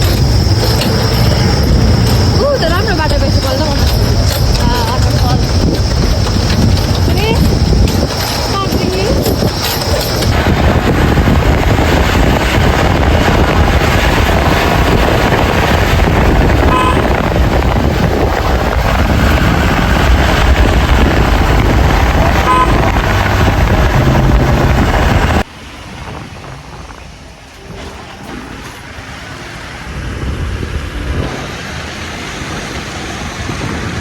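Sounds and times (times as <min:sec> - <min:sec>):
road noise: 0:00.0 - 0:34.0
vehicle engine rumble: 0:00.0 - 0:34.0.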